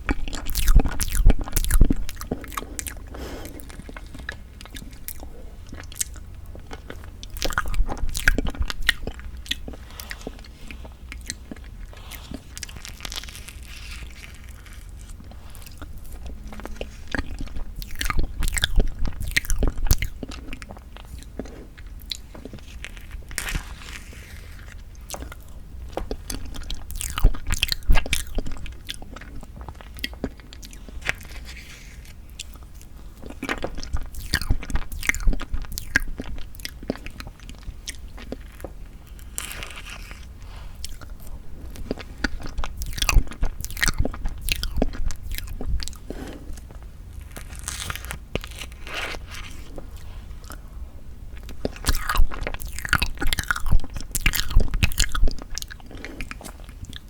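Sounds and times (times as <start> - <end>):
chewing and mouth sounds: 0.0 - 57.0.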